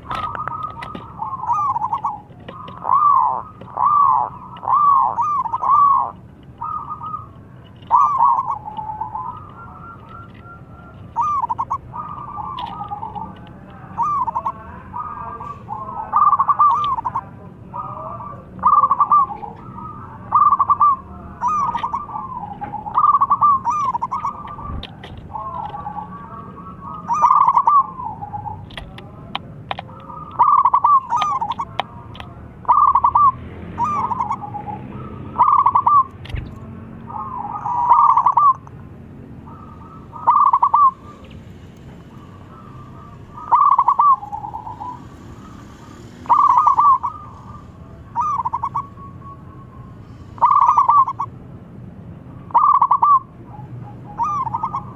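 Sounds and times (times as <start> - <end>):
dove cooing: 0.0 - 36.2, 37.1 - 51.4, 52.4 - 54.9.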